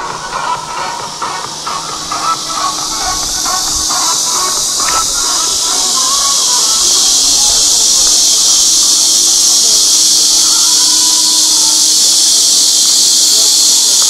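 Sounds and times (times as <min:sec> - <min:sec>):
faint voices: 0:00.0 - 0:14.0
insect chorus: 0:00.0 - 0:14.0.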